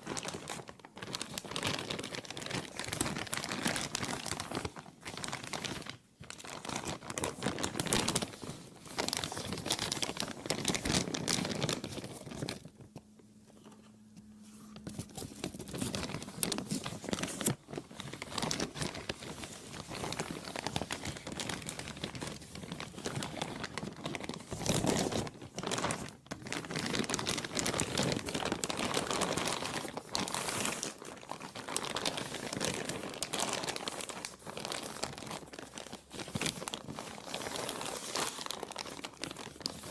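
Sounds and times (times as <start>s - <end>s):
plastic crinkling: 0.0s - 39.9s.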